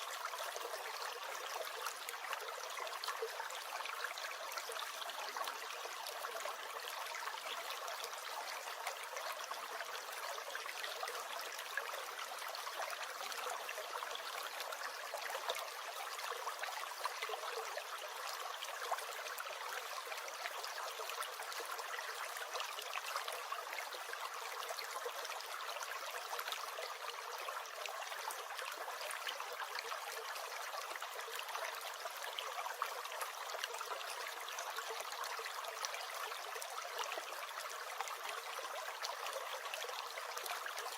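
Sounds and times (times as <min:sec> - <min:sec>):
stream gurgling over stones: 0:00.0 - 0:40.9.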